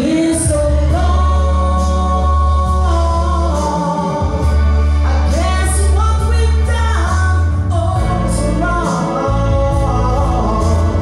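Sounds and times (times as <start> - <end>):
woman singing into microphone: 0.0 - 4.5, 5.1 - 11.0
backing track with bass line: 0.0 - 11.0.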